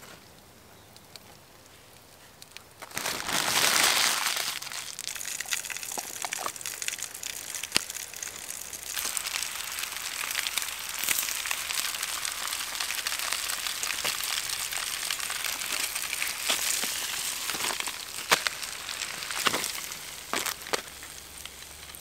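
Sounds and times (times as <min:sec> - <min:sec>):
paper wrapper crumpling: 0:02.8 - 0:22.0.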